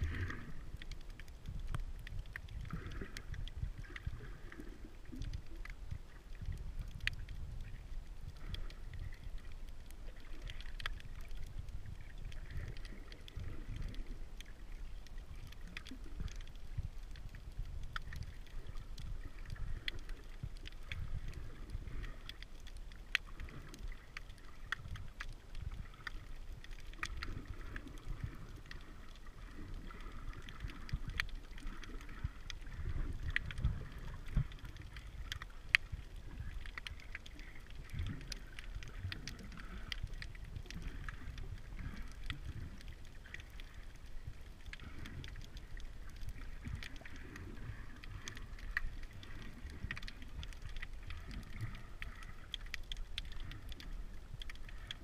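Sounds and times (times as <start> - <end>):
low rumble of moving water: 0.0 - 55.0
sharp underwater clicks and crackles: 0.0 - 55.0.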